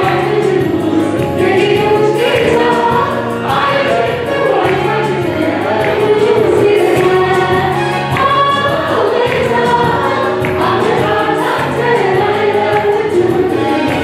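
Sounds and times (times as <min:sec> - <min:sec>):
gospel choir singing: 0:00.0 - 0:14.0
instrumental backing: 0:00.0 - 0:14.0.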